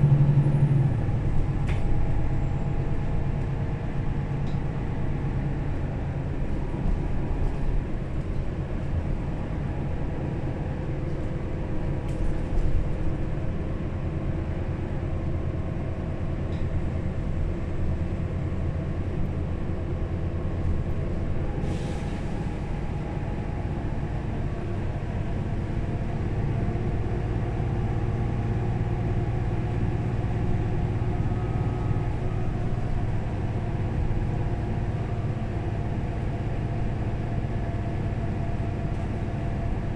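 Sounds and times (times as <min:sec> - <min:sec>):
bus diesel engine drone: 0:00.0 - 0:39.9
road rumble: 0:00.0 - 0:39.9.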